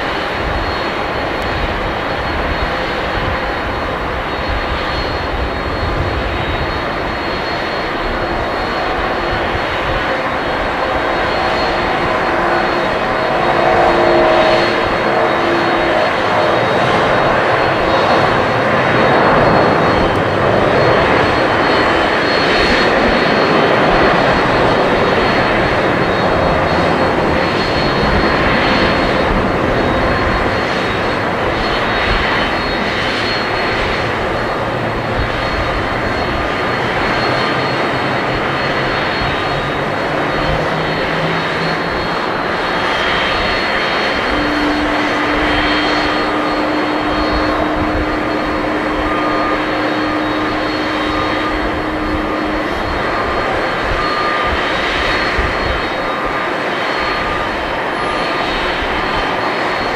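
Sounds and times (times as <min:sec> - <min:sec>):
jet engines at takeoff: 0:00.0 - 0:59.9.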